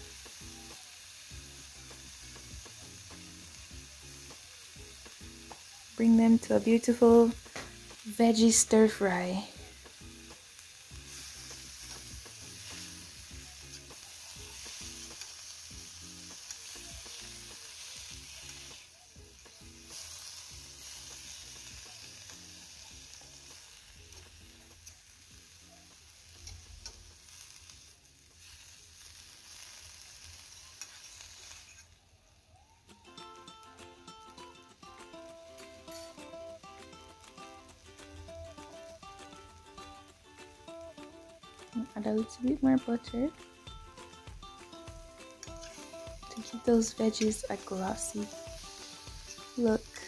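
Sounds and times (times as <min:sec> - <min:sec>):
vegetables sizzling in frying pan: 0:00.0 - 0:50.0.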